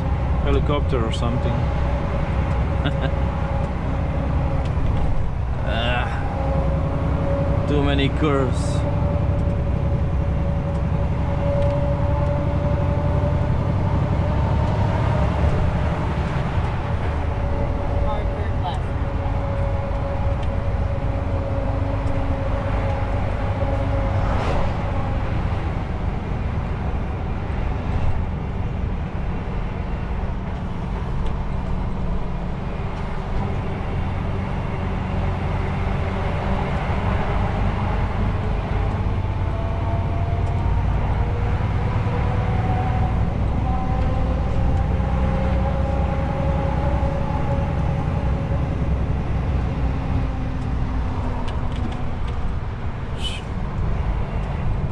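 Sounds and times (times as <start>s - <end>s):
diesel truck engine rumbling: 0.0s - 54.9s
road noise: 0.0s - 54.9s.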